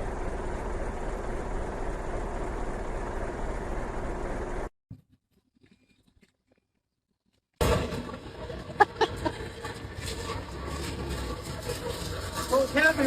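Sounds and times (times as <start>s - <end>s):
noisy outdoor background: 0.0s - 13.0s.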